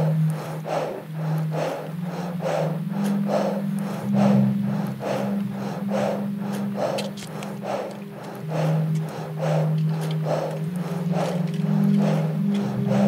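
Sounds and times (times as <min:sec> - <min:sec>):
heavy rhythmic panting: 0:00.0 - 0:13.0
low sustained music notes: 0:00.0 - 0:13.0.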